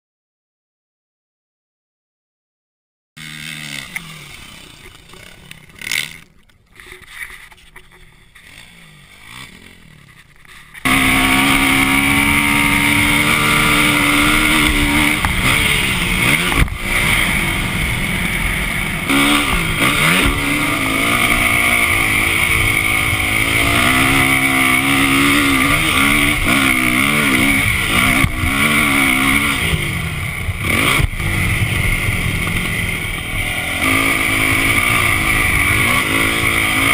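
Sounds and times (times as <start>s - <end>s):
dirt bike engine revving: 3.2s - 7.1s, 8.2s - 36.9s.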